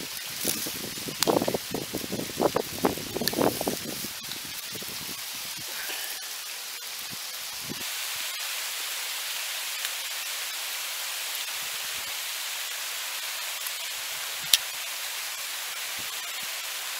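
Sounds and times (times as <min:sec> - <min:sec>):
hail falling: 0:00.1 - 0:16.9.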